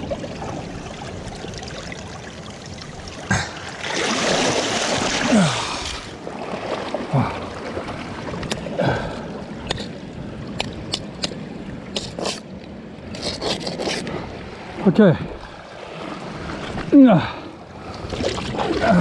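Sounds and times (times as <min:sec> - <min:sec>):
water noise: 0:00.0 - 0:19.0
wind: 0:00.0 - 0:19.0.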